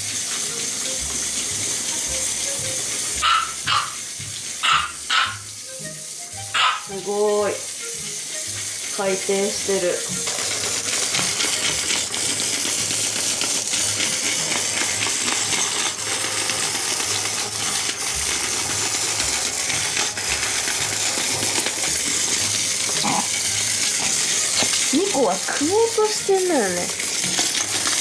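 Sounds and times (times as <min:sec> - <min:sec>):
toy motor mechanical clatter: 0:00.0 - 0:28.0.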